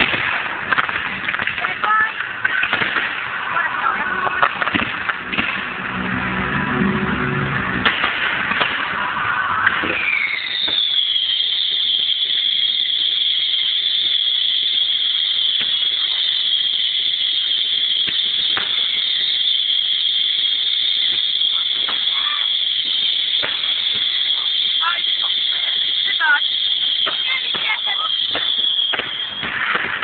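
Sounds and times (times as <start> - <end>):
firework crackles: 0.0 - 30.0
firework fountain hissing: 0.0 - 30.0.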